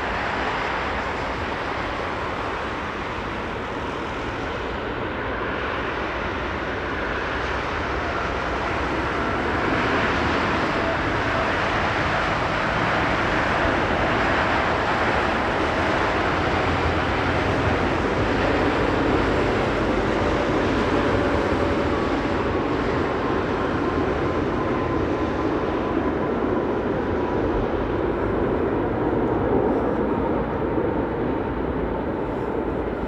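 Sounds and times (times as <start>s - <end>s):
jet airliner engine noise: 0.0s - 33.0s.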